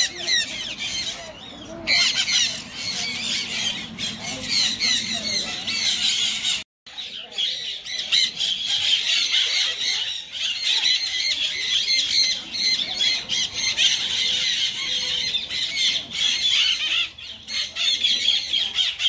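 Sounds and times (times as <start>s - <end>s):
parakeets calling: 0.0s - 19.0s.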